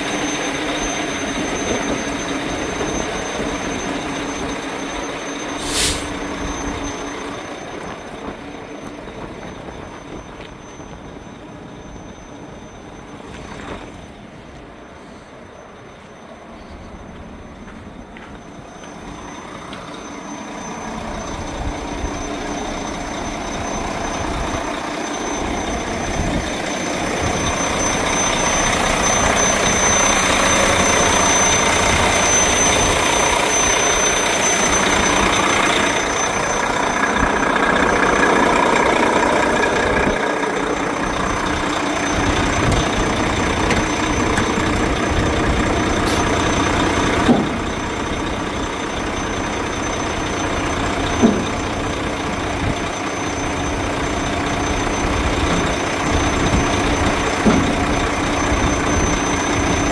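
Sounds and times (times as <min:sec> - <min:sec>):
thin high whine: 0:00.0 - 0:51.4
truck diesel engine running: 0:00.0 - 0:59.9.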